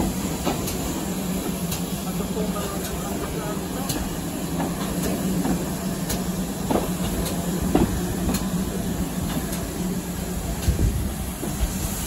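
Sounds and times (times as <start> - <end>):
railway carriage rumble and hum: 0.0 - 12.0.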